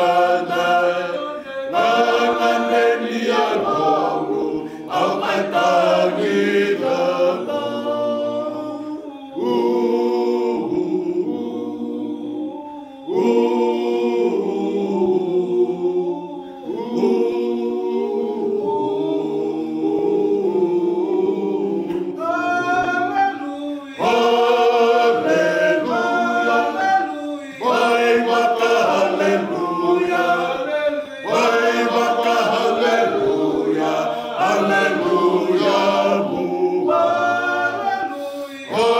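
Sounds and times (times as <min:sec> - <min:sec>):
men singing a hymn a cappella: 0:00.0 - 0:38.9.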